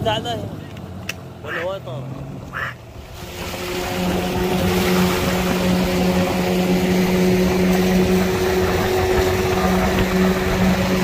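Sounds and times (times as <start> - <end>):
outboard motor droning: 0.0 - 11.0
water rushing along hull: 0.0 - 11.0.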